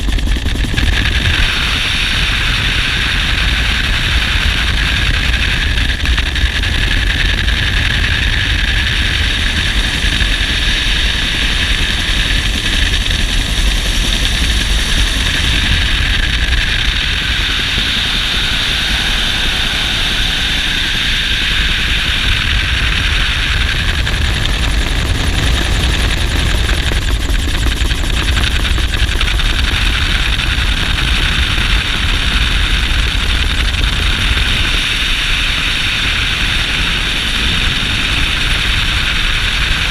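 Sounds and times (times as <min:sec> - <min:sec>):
helicopter rotor beat: 0:00.0 - 0:39.9
turbine and rushing air: 0:00.0 - 0:39.9.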